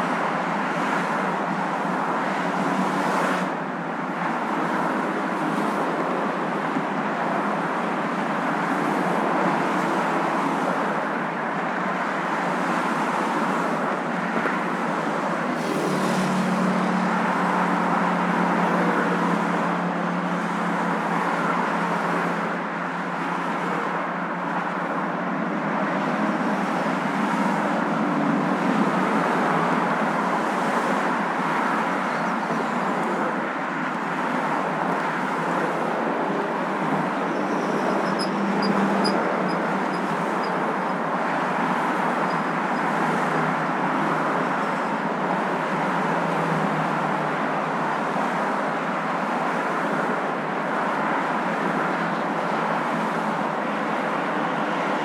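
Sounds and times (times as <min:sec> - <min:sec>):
car road noise and hum: 0:00.0 - 0:55.0.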